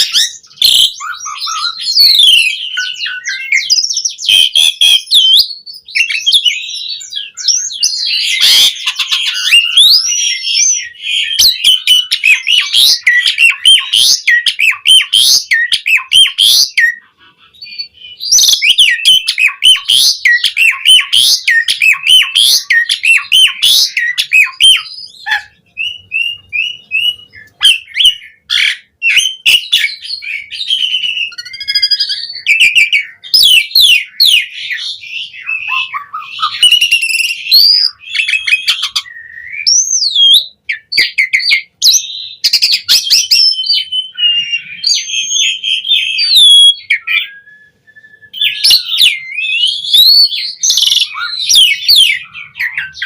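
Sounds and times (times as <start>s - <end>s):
starling singing: 0.0s - 53.0s.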